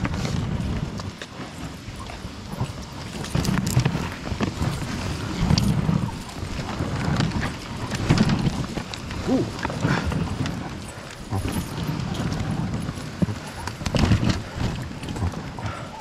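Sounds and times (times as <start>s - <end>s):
chain leads and harness rattling: 0.0s - 16.0s
dog paws pattering on snow: 0.0s - 16.0s.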